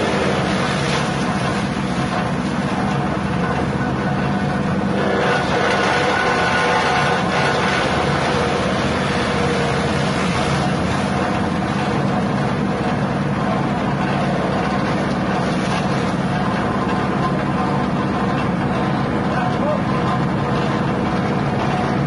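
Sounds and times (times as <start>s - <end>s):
grass chopper machine running: 0.0s - 22.0s.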